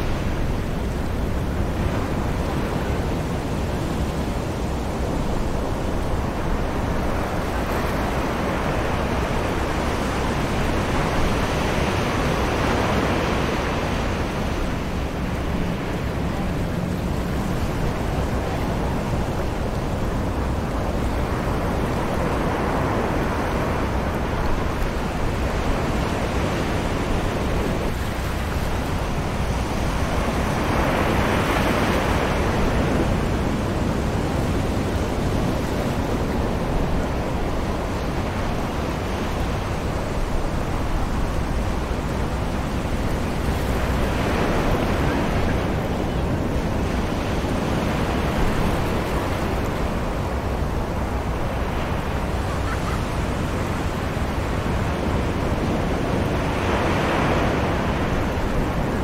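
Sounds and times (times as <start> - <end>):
light breeze: 0.0 - 59.0
ocean surf on sandy beach: 0.0 - 59.0.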